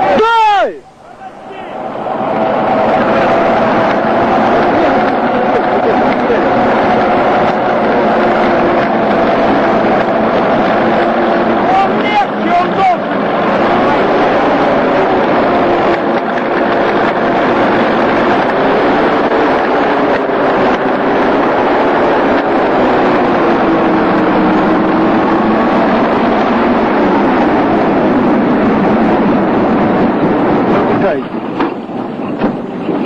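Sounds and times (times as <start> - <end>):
tracked vehicle engine running hard: 0.0 - 33.0.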